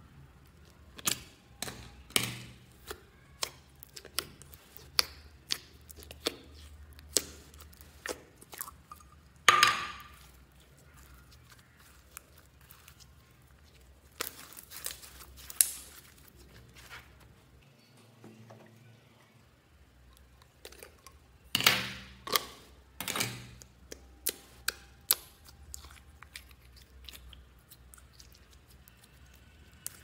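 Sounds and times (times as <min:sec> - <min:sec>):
crackling slime squishes: 0:00.3 - 0:17.5, 0:20.1 - 0:30.0
slime squelching: 0:00.3 - 0:17.6, 0:20.0 - 0:30.0.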